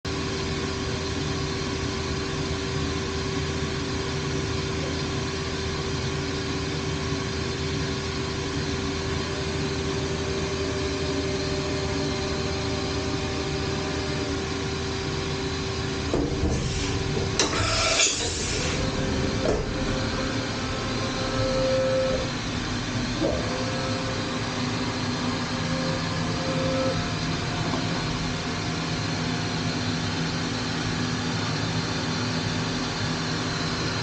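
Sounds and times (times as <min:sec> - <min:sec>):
machine hum: 0:00.1 - 0:34.0.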